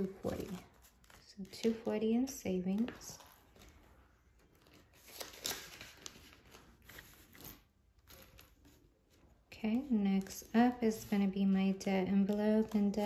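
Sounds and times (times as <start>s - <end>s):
paper banknotes rustling: 0.0s - 13.0s.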